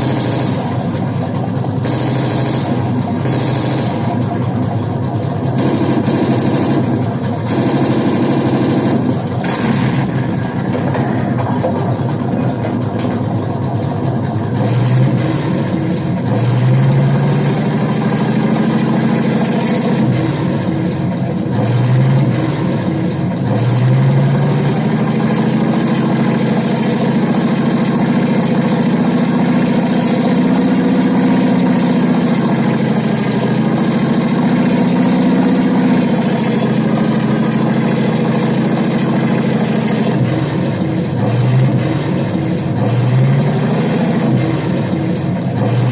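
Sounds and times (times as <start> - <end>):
tank engine idling and revving: 0.0 - 45.9.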